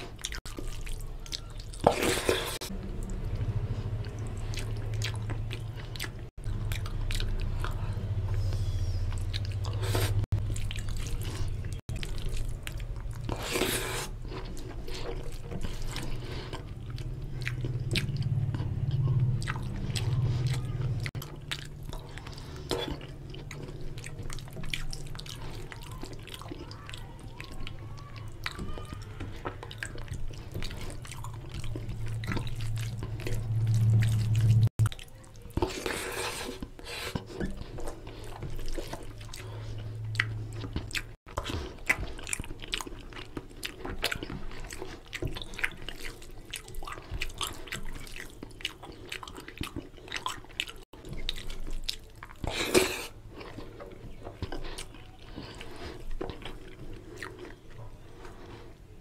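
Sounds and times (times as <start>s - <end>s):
wet chewing and lip smacks: 0.0s - 58.8s
fingers squishing food: 0.0s - 58.9s.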